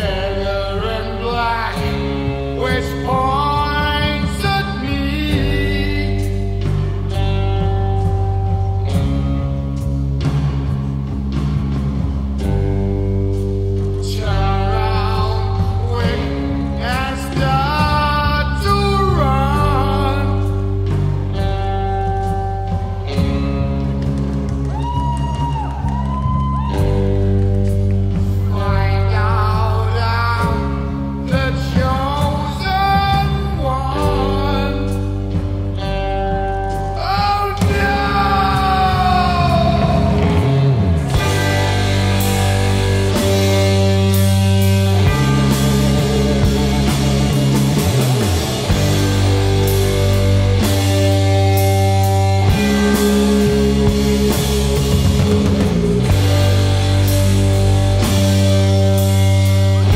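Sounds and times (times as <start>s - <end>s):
song with vocals and beat: 0.0s - 7.6s, 13.6s - 21.6s, 22.2s - 59.9s
rock music with heavy guitar and bass: 0.0s - 59.9s.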